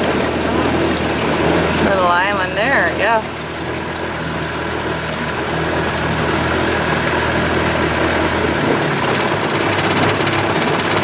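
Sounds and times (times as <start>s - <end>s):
outboard motor running: 0.0s - 11.0s
water and wind hiss: 0.0s - 11.0s.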